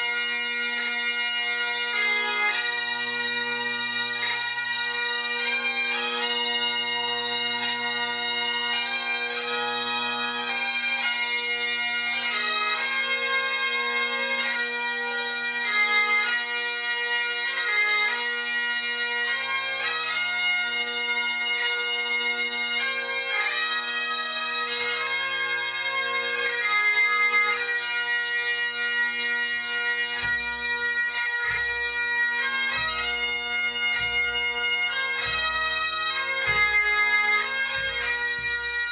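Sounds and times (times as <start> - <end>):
bagpipes playing slow melody: 0.0 - 38.9.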